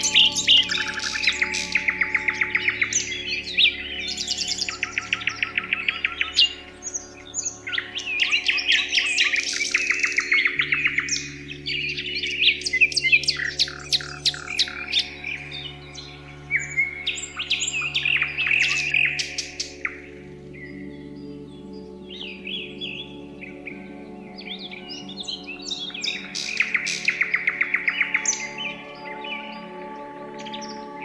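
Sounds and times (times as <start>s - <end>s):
soft low drone: 0.0s - 31.0s
songbirds chirping and trilling: 0.0s - 31.0s.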